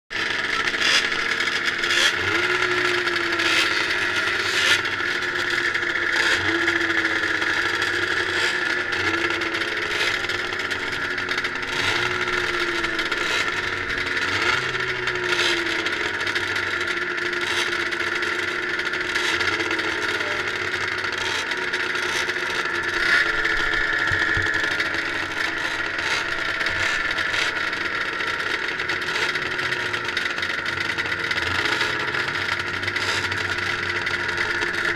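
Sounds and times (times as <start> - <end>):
engine throttle blips: 0.1 - 34.9
snowmobiles idling: 0.1 - 34.9.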